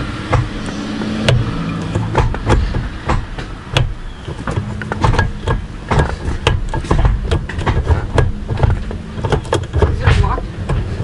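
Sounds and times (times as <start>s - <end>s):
gear shifter clicks and clunks: 0.0s - 11.0s.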